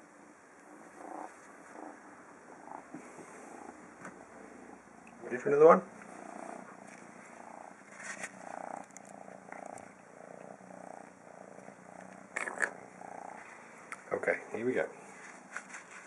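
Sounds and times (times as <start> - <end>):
kitten purring: 0.0 - 16.0
rustle: 0.5 - 16.0.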